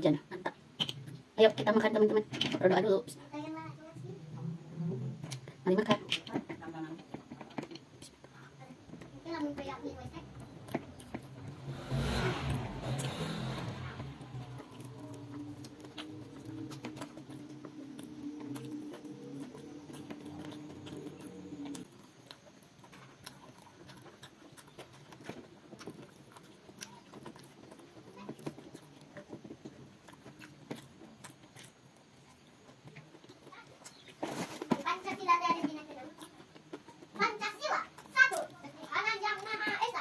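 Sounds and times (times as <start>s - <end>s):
steady low hum: 3.0s - 37.2s
chewing and mouth clicks: 7.2s - 12.2s, 12.8s - 40.0s.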